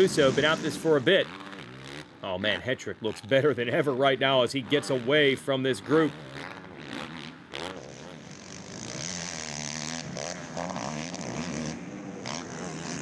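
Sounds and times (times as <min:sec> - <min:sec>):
racing atv engines revving: 0:00.0 - 0:13.0.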